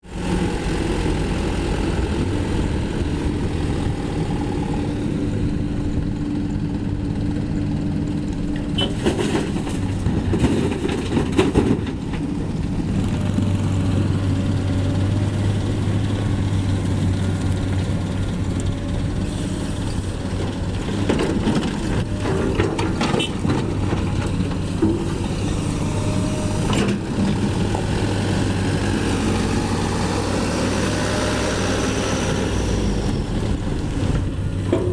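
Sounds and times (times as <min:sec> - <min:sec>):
diesel engines running: 0:00.1 - 0:34.9.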